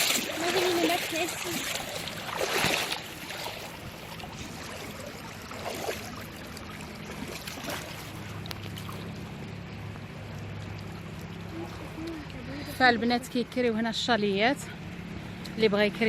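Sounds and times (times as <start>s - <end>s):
river water rushing: 0.0s - 13.2s
low hum: 0.0s - 16.0s.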